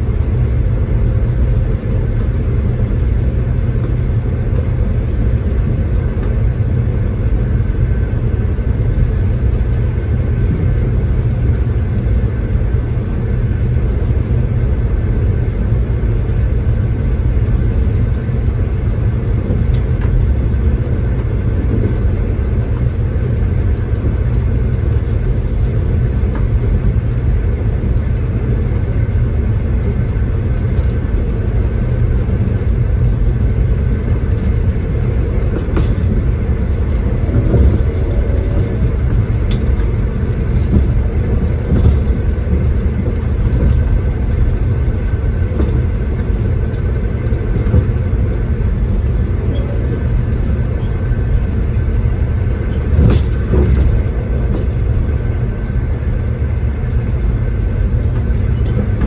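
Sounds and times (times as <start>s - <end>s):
train rumbling from inside carriage: 0.0s - 59.0s.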